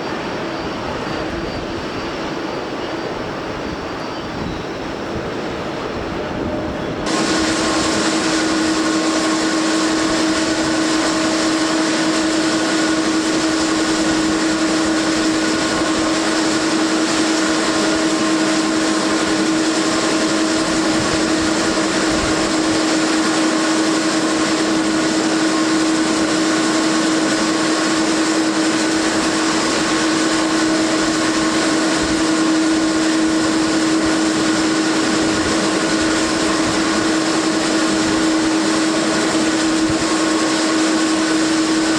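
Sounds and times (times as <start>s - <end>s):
turboprop engines droning: 0.0s - 41.9s.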